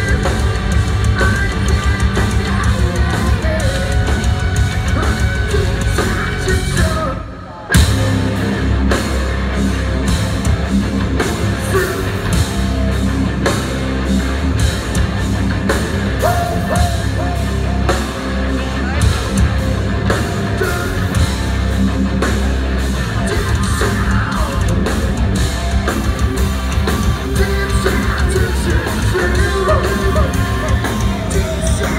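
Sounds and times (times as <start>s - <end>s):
heavy metal band playing: 0.0s - 31.9s.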